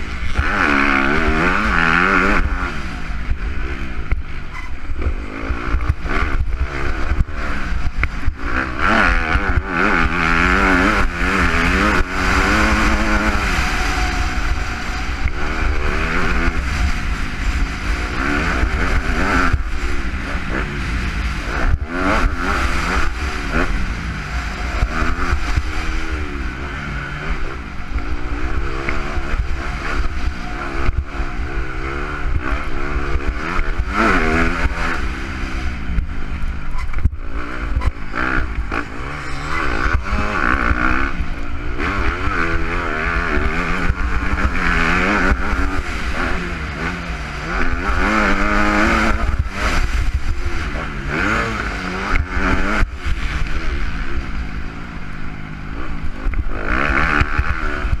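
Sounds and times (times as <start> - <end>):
motocross bike engine revving: 0.0 - 58.0
wind rumble on microphone: 0.0 - 58.0.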